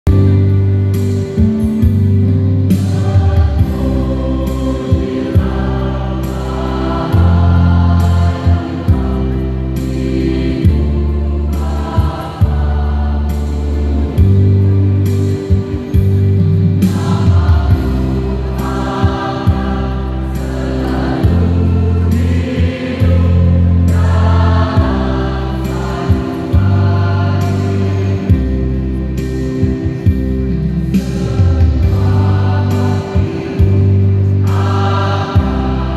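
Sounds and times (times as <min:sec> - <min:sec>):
mixed choir singing chords: 0:02.6 - 0:35.9.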